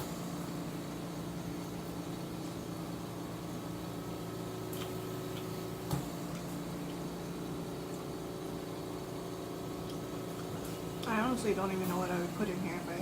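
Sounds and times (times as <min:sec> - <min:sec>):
appliance hum: 0:00.0 - 0:13.0.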